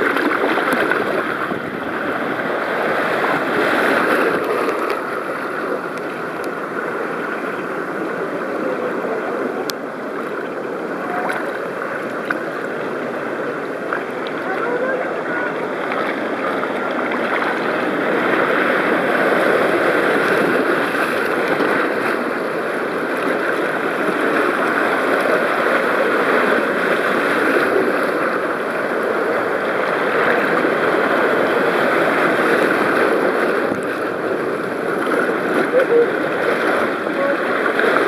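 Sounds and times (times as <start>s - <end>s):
fast water rushing and splashing: 0.0s - 38.0s.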